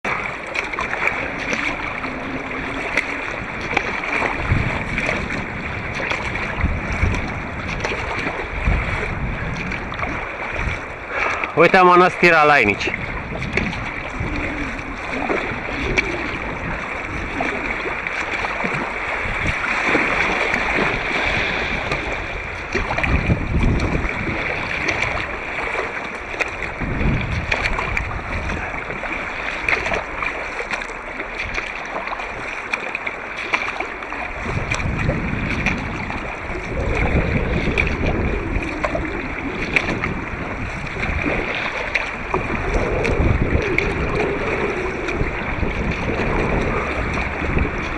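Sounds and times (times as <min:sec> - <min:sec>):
river water rushing and splashing: 0:00.0 - 0:47.9
wind rumble on microphone: 0:00.0 - 0:47.9.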